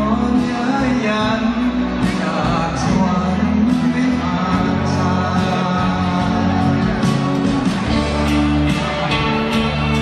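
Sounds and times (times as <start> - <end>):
live band with guitar: 0.0 - 10.0.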